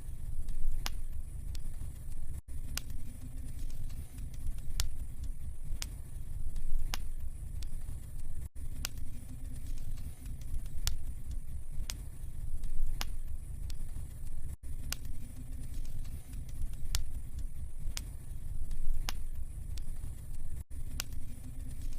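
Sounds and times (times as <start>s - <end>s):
fire low rumble: 0.0s - 21.9s
wood fire crackling and popping: 0.0s - 21.9s.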